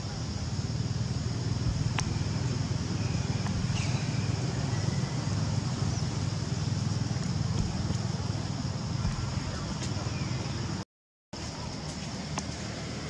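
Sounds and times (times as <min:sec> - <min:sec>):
low outdoor rumble: 0:00.0 - 0:10.8, 0:11.4 - 0:13.0.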